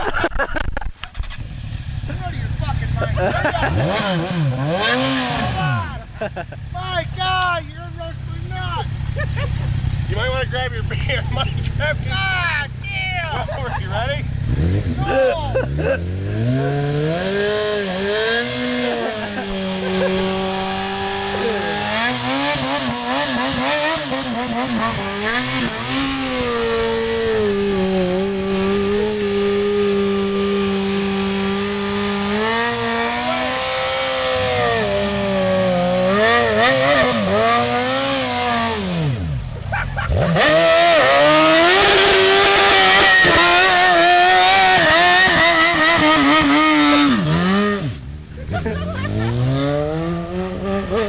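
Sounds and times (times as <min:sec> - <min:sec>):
motorcycle engine at high revs: 0:00.0 - 0:51.0.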